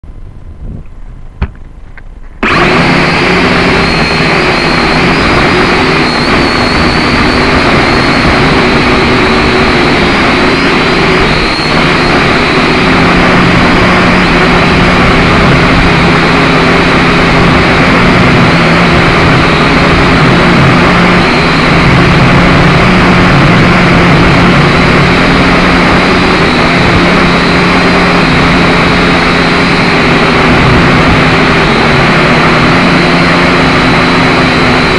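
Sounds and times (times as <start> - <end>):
quadcopter motors whining: 1.5 - 34.9.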